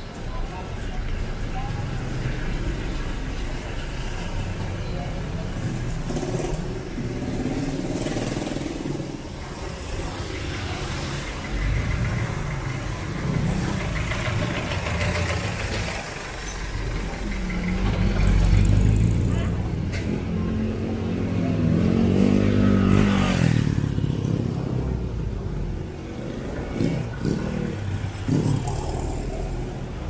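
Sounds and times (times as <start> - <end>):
vehicle engines passing: 0.0 - 30.0.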